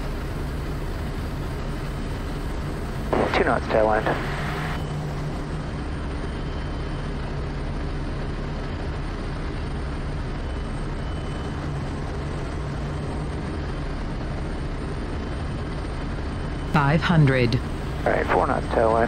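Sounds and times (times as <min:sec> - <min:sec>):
propeller engine droning: 0:00.0 - 0:19.0.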